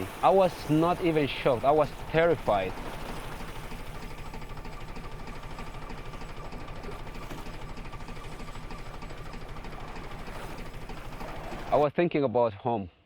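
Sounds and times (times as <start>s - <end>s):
pulsing low engine-like drone: 0.0s - 11.8s.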